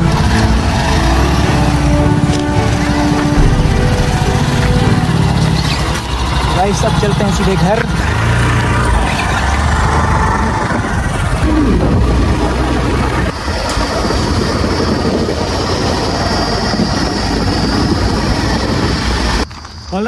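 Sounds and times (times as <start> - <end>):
wind noise on microphone: 0.0 - 6.2, 9.7 - 19.6
motorcycle engine running: 0.0 - 19.4.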